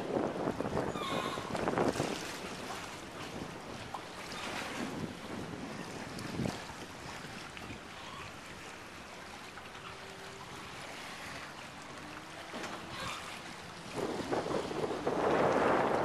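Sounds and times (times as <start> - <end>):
wind buffeting microphone: 0.0 - 8.8, 9.9 - 16.0
waves lapping on water: 0.0 - 16.0.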